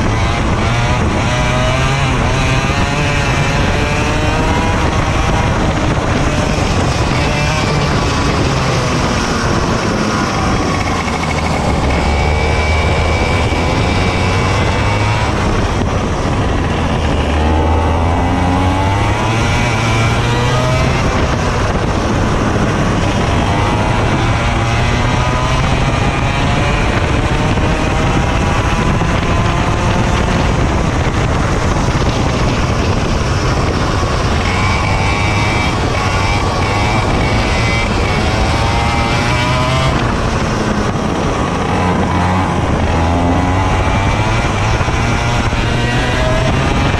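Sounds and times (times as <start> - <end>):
kart engine revving: 0.0 - 46.9
steady rush of noise: 0.0 - 46.9.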